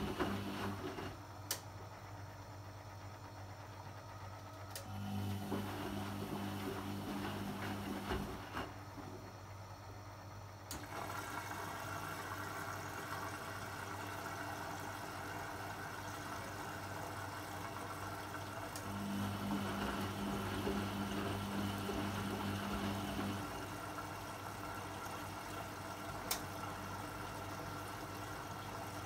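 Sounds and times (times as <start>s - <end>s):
washing machine drum motor running: 0.0s - 29.0s.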